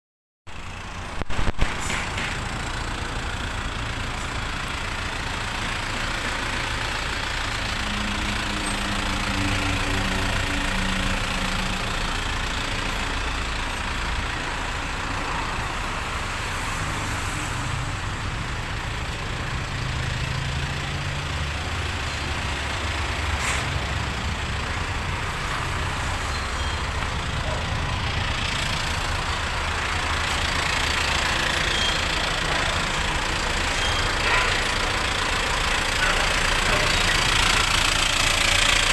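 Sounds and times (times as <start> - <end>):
truck diesel engine idling: 0.5 - 38.9.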